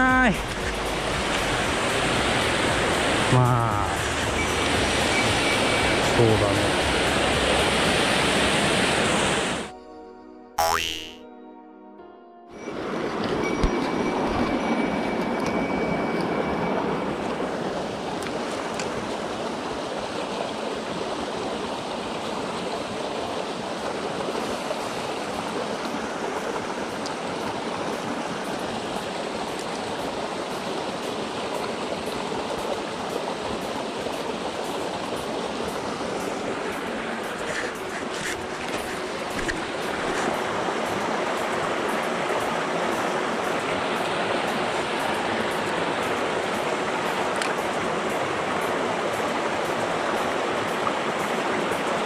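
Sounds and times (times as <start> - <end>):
stream running over rocks: 0.0 - 9.7, 12.7 - 52.0.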